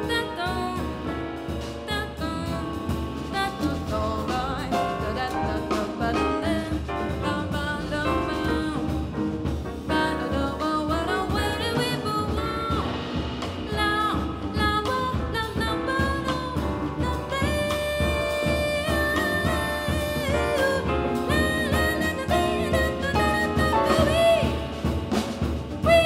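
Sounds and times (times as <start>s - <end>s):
jazz band playing: 0.0s - 26.0s
woman singing jazz: 0.0s - 26.0s.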